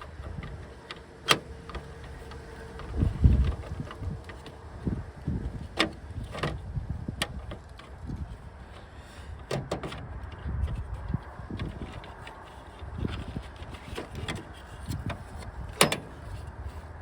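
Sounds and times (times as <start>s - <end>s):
plastic and metal parts clicking: 0.0s - 16.9s.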